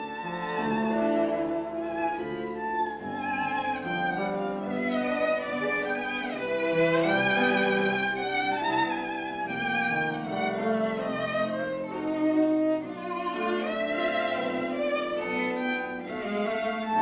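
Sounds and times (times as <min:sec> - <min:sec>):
lower bowed strings: 0:00.0 - 0:17.0
violin melody: 0:00.0 - 0:17.0.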